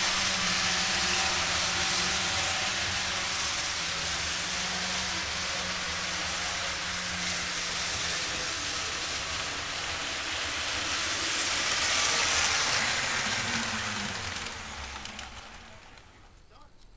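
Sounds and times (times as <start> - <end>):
model train rumbling and rattling: 0.0 - 16.7.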